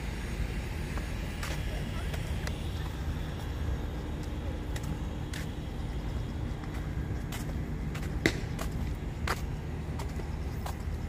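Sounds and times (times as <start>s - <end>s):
faint steady hum: 0.0s - 11.0s
road traffic rumble: 0.0s - 11.0s.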